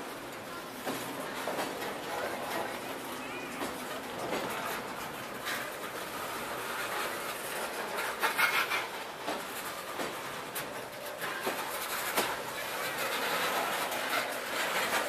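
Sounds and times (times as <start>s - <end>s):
train wheels clacking: 0.0s - 15.0s
train wheels rattling on rails: 0.0s - 15.0s.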